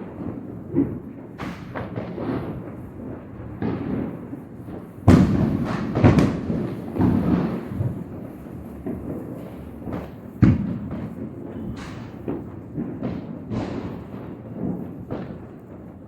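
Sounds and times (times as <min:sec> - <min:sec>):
firecrackers banging: 0:00.0 - 0:16.0.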